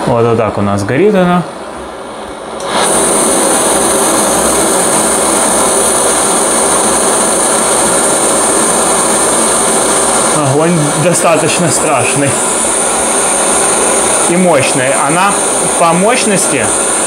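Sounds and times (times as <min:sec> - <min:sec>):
gas stove burner hissing: 0:01.1 - 0:17.0.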